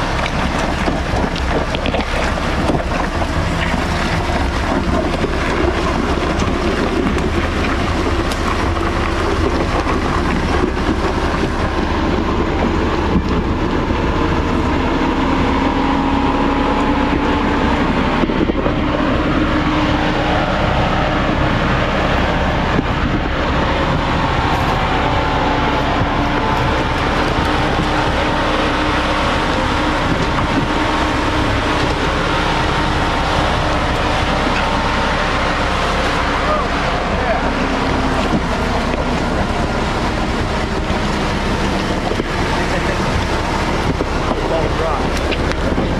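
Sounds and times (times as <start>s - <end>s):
car engine running: 0.0s - 45.9s
wind rumble on microphone: 0.0s - 45.9s.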